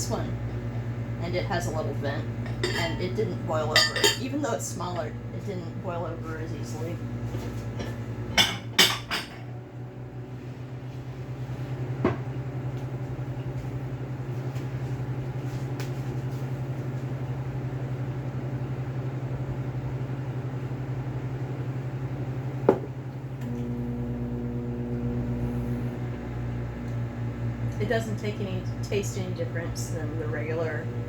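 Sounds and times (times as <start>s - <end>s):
microwave oven humming: 0.0s - 31.0s.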